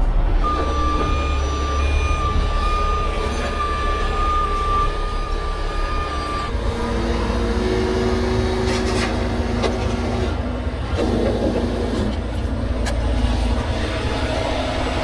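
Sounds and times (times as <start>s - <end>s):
high engine whine: 0.0s - 15.0s
truck engine rumble: 0.0s - 15.0s.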